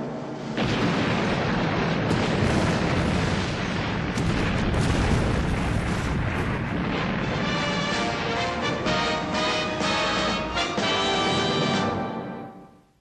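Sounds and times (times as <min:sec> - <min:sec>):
rumbling blast roar: 0:00.0 - 0:12.0.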